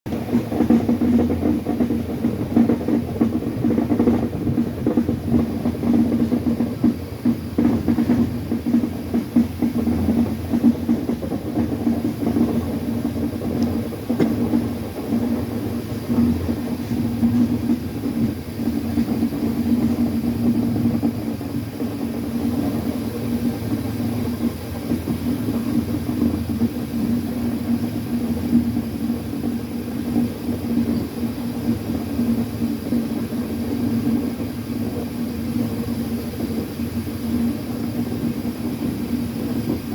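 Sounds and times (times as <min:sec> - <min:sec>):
train rumbling on track: 0:00.0 - 0:39.9
steady low hum: 0:00.1 - 0:39.9.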